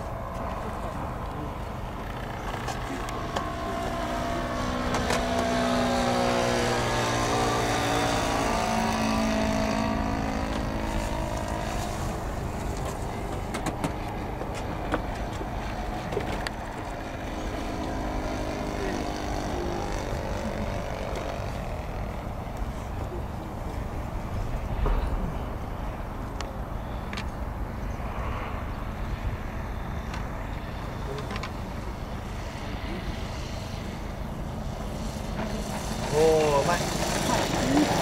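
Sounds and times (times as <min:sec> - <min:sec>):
propeller plane droning overhead: 0:00.0 - 0:38.0.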